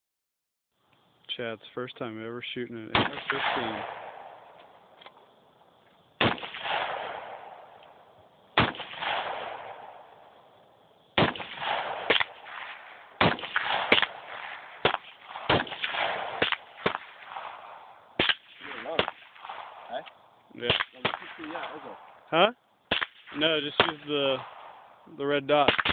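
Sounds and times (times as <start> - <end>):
rifle shots echoing: 2.9 - 5.0, 6.2 - 22.3, 22.9 - 25.9.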